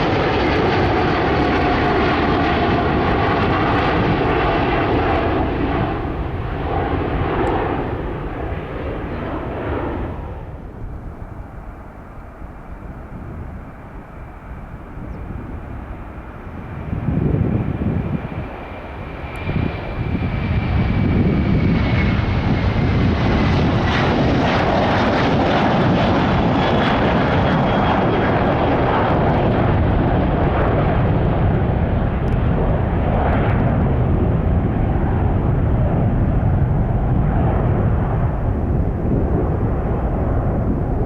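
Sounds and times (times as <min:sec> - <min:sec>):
jet engines at take-off power: 0:00.0 - 0:41.0.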